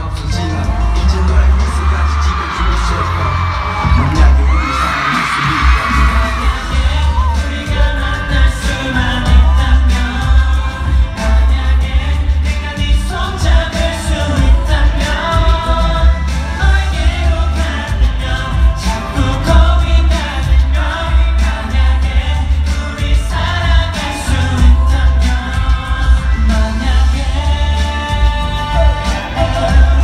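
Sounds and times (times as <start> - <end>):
loud backing music with bass: 0.0 - 30.0
man singing pop song: 0.0 - 30.0.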